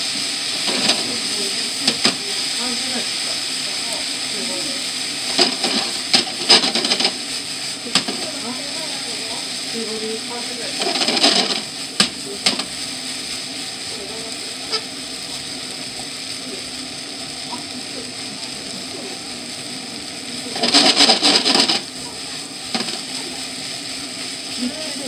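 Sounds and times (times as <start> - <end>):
noodles sizzling in a frying pan: 0.0 - 25.0.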